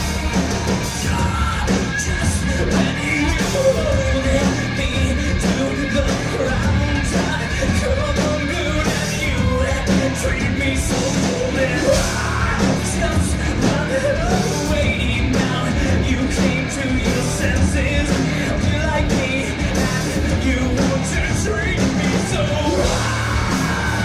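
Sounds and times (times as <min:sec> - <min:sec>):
live rock band playing: 0:00.0 - 0:24.0
person singing or shouting: 0:00.0 - 0:24.0.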